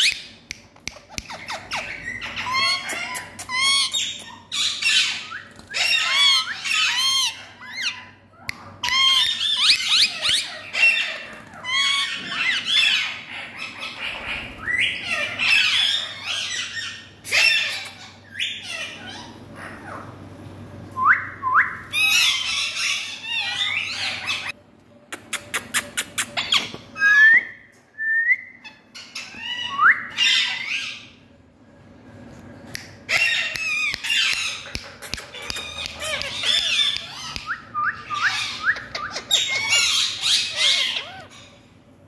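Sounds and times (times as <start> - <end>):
parakeets squawking: 1.0 - 20.1, 21.9 - 24.6, 25.4 - 27.0, 28.7 - 31.2, 33.0 - 41.8.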